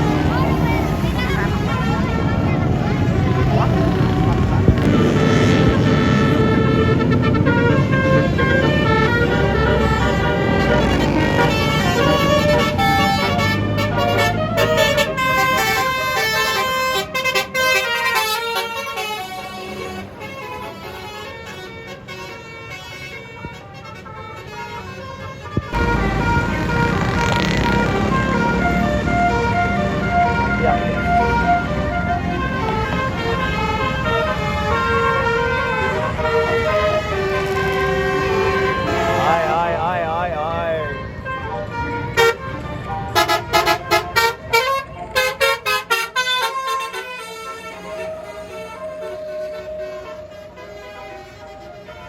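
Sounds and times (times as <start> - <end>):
bus engine: 0.0 - 52.0
multi-tone bus horn tune: 0.0 - 52.0
traffic: 0.0 - 52.0.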